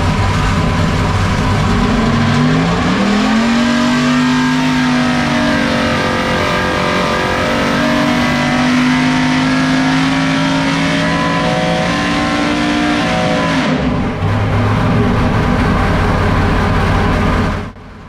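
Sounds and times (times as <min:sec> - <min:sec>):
engine idling: 0:00.0 - 0:11.2, 0:13.8 - 0:18.0
race engine running under load: 0:00.0 - 0:18.0.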